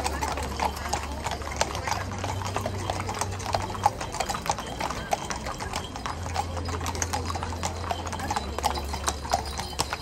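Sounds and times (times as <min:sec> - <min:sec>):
hooves clip-clopping on asphalt: 0:00.0 - 0:10.0.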